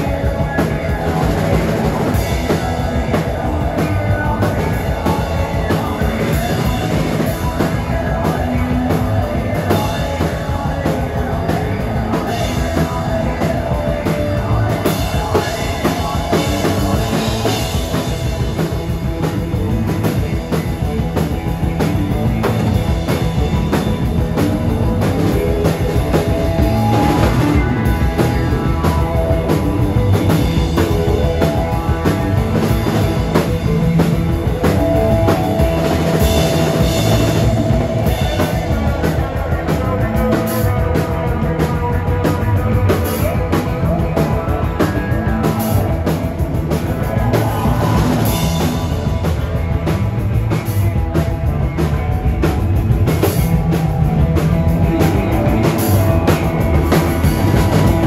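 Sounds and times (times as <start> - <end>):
bass guitar: 0.0 - 58.0
drum kit with cymbals: 0.0 - 58.0
electric guitar: 0.0 - 58.0
keyboards: 0.0 - 58.0.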